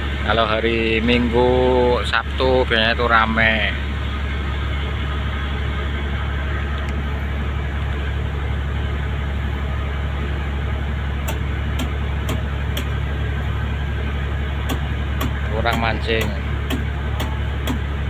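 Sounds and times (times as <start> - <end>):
ship engine drone: 0.0 - 18.0.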